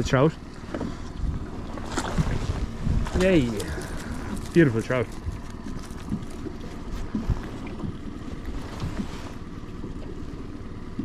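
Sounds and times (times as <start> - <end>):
wind rumbling on microphone: 0.6 - 10.0.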